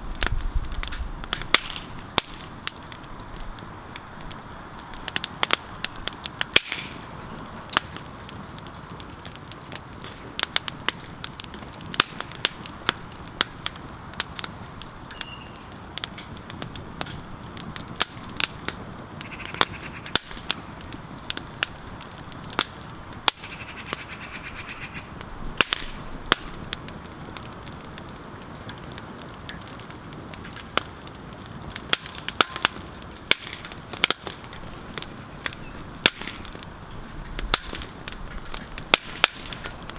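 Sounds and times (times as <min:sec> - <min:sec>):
campfire crackling and popping: 0:00.0 - 0:39.9
fire hiss: 0:00.0 - 0:39.9.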